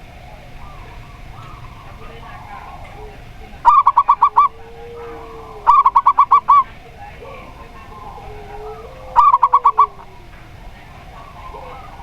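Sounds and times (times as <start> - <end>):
low drawn-out dove coo: 0.0 - 12.0.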